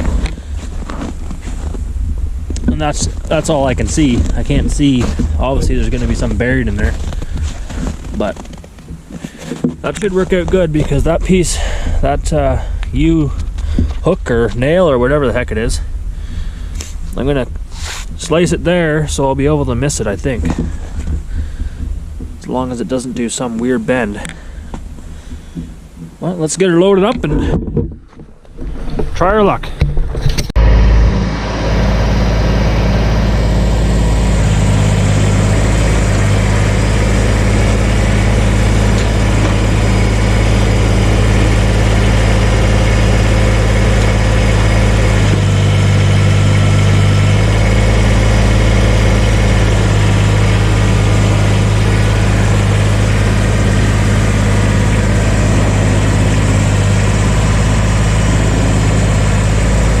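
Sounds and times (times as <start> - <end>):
engine running steadily: 0.0 - 26.2, 29.8 - 60.0.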